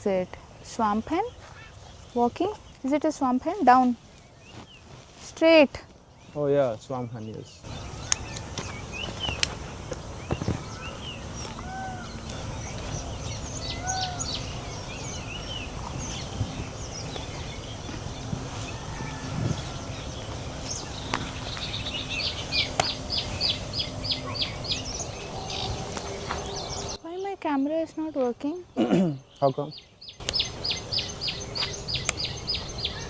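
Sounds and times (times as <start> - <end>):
birds chirping and whistling: 0.0 - 33.0
down-curving bird calls: 0.0 - 33.0.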